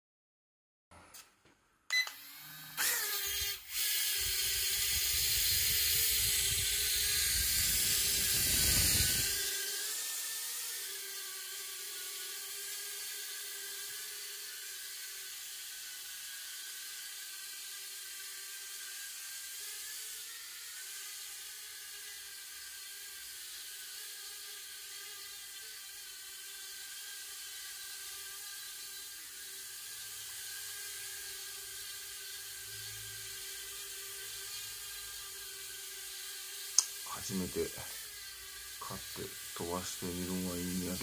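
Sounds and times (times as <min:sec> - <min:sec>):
small drone high-pitched whir: 0:01.0 - 0:41.0.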